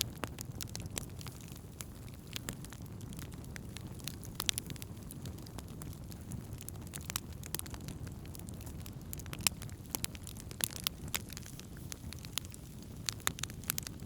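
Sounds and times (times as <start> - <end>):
burning wood pops and crackles: 0.0 - 14.0
campfire flames rumbling: 0.0 - 14.0.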